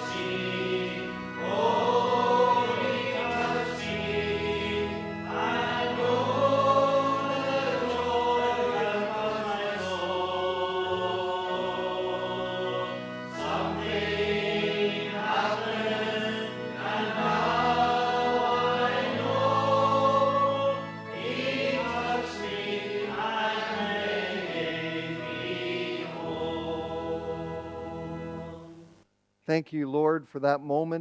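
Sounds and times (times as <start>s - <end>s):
congregation singing: 0.0s - 29.0s
sustained instrumental chords: 0.0s - 29.0s.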